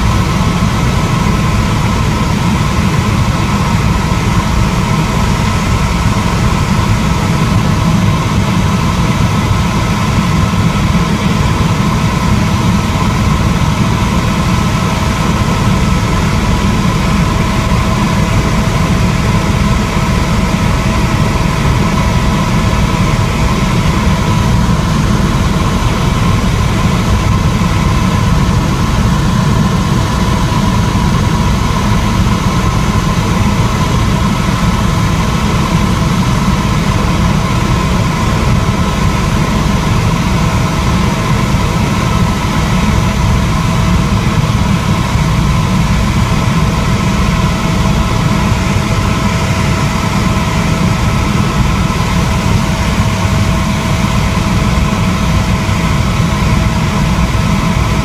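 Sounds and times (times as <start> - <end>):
helicopter rotor and engine rumble: 0.0 - 58.0
steady whining tones: 0.0 - 58.0.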